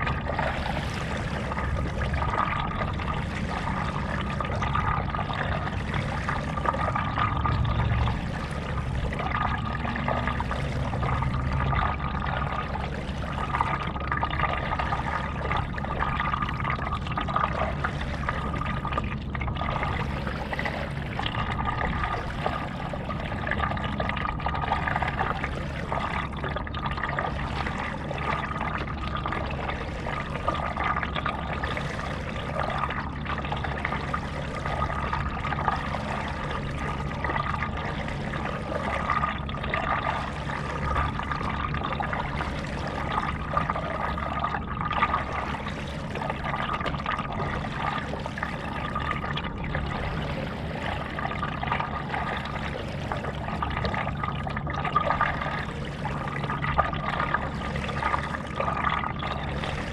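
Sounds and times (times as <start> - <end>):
paddle strokes in water: 0.0 - 59.9
water trickling and splashing: 0.0 - 59.9.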